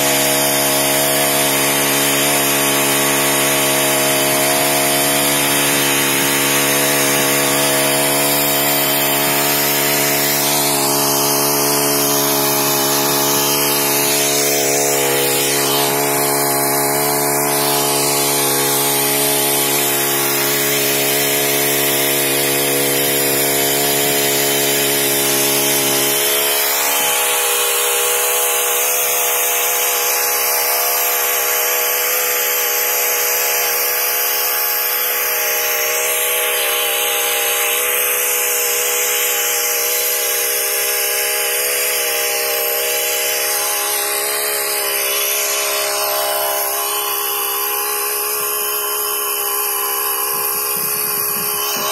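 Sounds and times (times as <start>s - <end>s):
brush cutter engine running: 0.0s - 51.9s
tines digging into soil: 0.0s - 51.9s.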